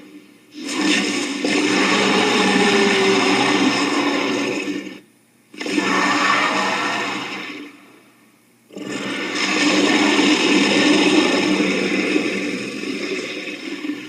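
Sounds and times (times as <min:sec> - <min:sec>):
monster roar: 0:00.6 - 0:04.8, 0:05.6 - 0:07.8, 0:08.7 - 0:13.9.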